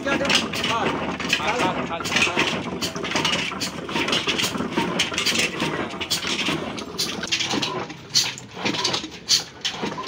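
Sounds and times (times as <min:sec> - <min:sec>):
old engine knocking: 0:00.0 - 0:10.0
press grinding seed: 0:00.0 - 0:10.0.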